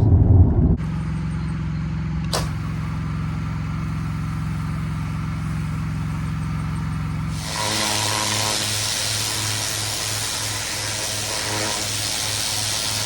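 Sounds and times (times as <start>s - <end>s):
vehicle engine humming: 0.0s - 10.6s.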